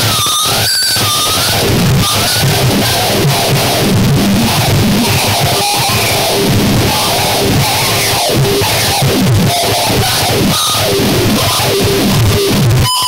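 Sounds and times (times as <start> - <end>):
harsh noise music: 0.0 - 13.0
stuttering low tones: 1.6 - 12.8.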